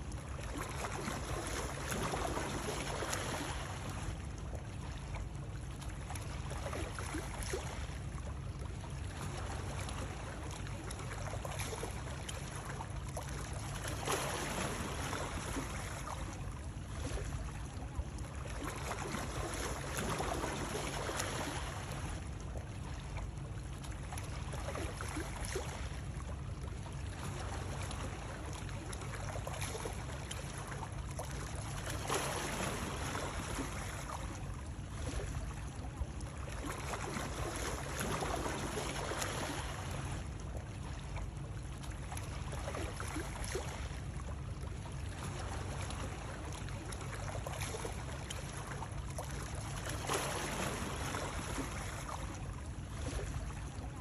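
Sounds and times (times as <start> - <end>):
water splashing and lapping: 0.0 - 54.0.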